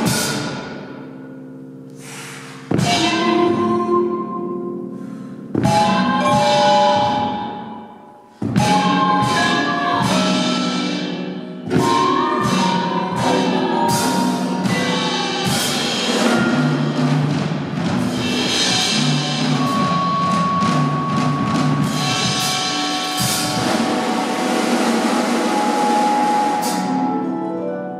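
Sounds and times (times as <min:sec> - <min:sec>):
struck percussion and mallet notes: 0:00.0 - 0:27.9.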